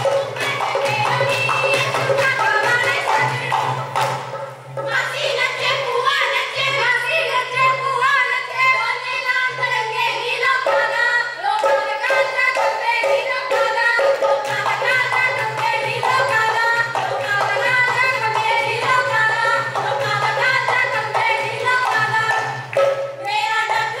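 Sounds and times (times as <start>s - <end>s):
women singing folk song: 0.0s - 3.9s, 4.8s - 24.0s
rhythmic hand clapping: 0.0s - 6.9s, 9.5s - 24.0s.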